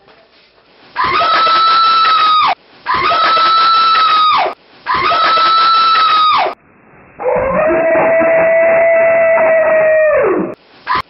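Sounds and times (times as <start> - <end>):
high-pitched scream: 1.0 - 6.6, 7.2 - 11.0.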